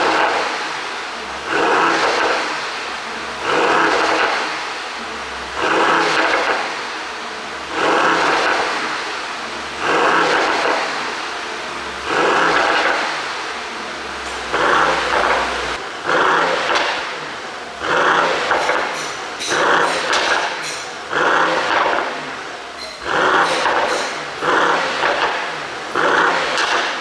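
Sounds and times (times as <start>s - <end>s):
exhaust pops and crackles: 0.0s - 9.1s, 9.7s - 11.3s, 11.9s - 17.2s, 17.8s - 27.0s
car engine revving: 0.0s - 27.0s.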